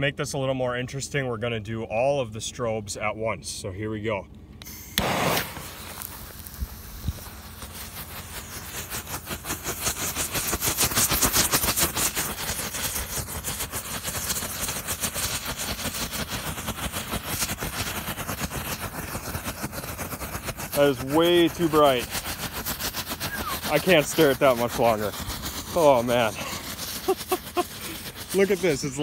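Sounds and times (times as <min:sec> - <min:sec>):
fireworks crackling: 0:04.6 - 0:29.0.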